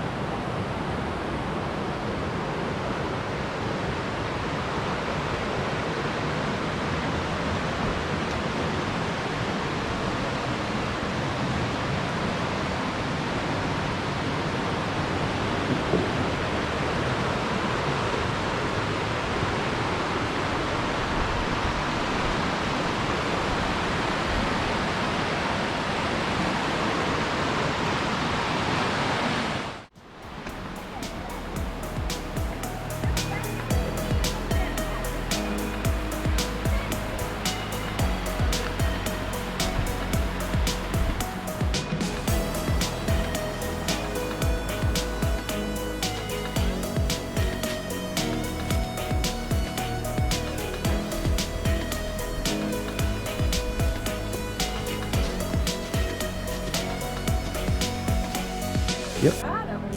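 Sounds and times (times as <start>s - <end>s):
waterfall roaring: 0.0s - 59.4s.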